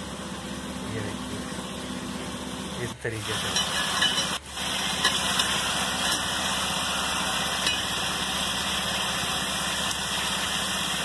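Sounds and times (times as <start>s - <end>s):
chicken sizzling in a pot: 0.0s - 11.0s.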